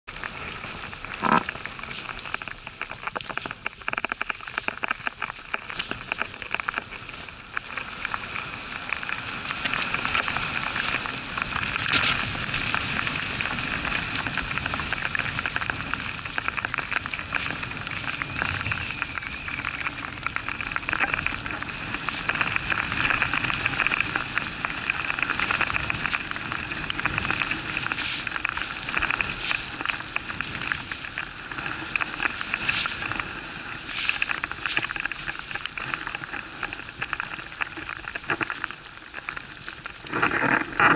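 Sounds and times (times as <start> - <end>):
crackling hiss of skiing in wind: 0.1 - 40.9.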